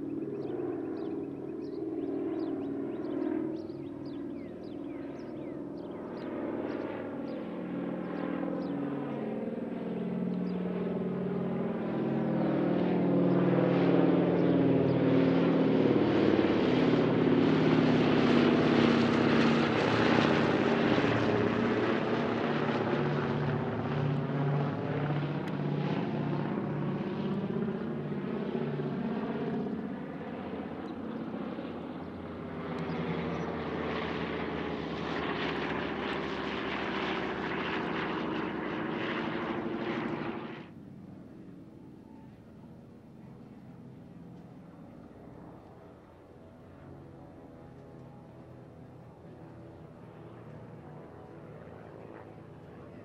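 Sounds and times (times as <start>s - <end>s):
propeller plane engines droning: 0.0s - 53.0s.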